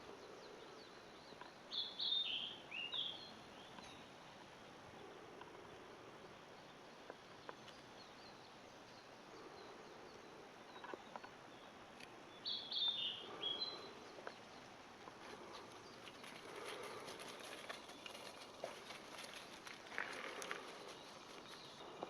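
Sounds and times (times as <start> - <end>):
faint forest background noise: 0.0 - 22.0
songbird singing: 0.0 - 22.0.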